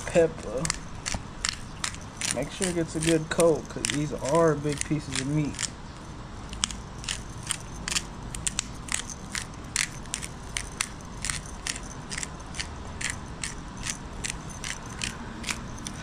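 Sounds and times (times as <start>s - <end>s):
pepper grinder crunching: 0.0s - 16.0s.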